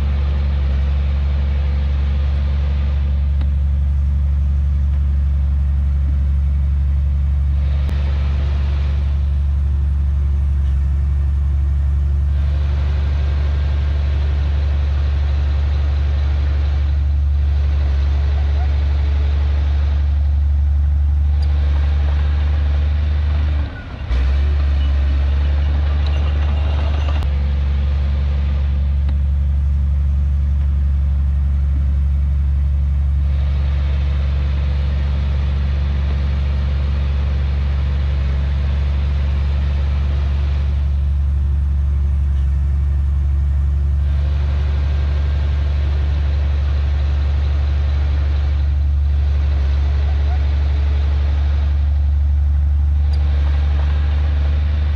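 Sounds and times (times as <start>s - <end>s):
heavy diesel engine humming: 0.0s - 54.9s.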